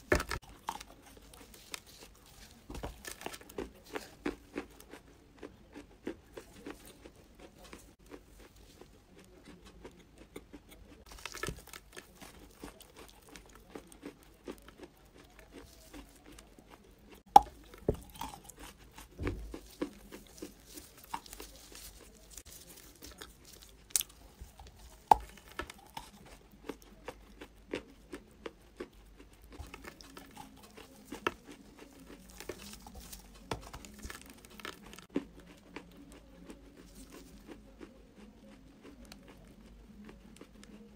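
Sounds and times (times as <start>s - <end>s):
chewing crunchy clay: 0.0s - 40.9s.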